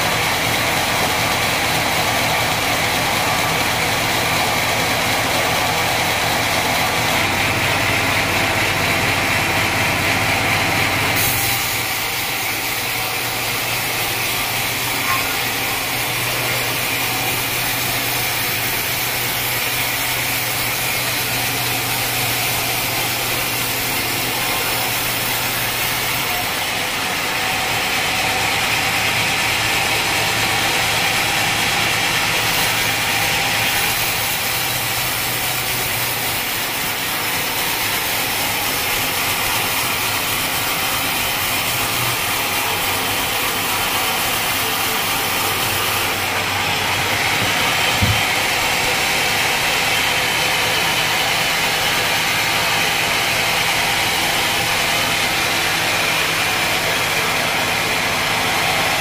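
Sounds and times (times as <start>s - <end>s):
sawmill motor running: 0.0s - 59.0s
saw blade cutting log: 11.1s - 59.0s.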